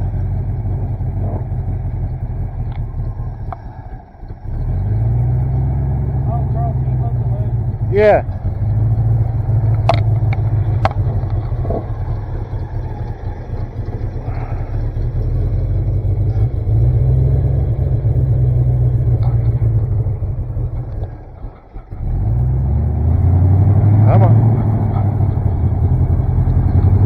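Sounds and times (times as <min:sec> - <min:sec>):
truck engine low rumble: 0:00.0 - 0:27.0.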